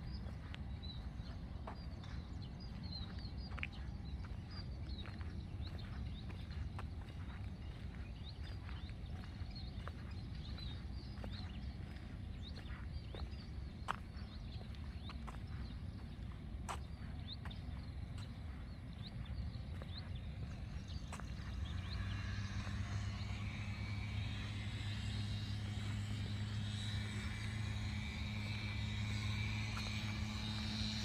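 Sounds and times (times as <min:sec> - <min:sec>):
motor engine running: 0:00.0 - 0:31.0.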